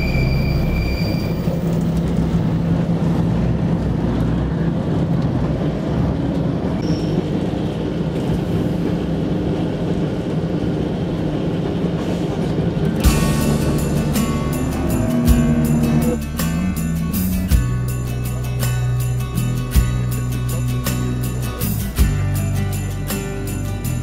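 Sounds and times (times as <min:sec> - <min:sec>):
train engine hum: 0:00.0 - 0:24.0
wheels rumbling on track: 0:00.0 - 0:24.0.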